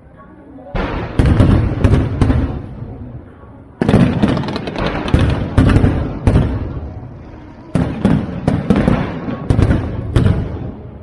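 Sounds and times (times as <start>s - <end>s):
fireworks booming: 0.8s - 11.0s.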